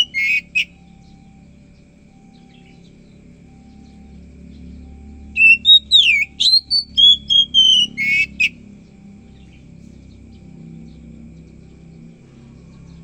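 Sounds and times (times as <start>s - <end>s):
bird whistled song: 0.0s - 13.0s.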